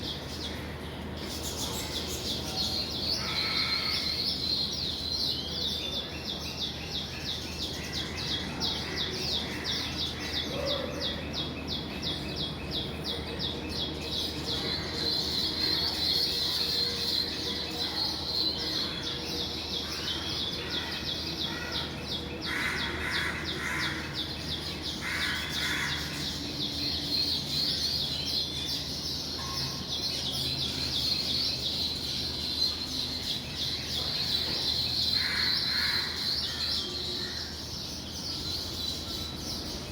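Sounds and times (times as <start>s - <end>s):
weaver birds chattering: 0.0s - 39.9s.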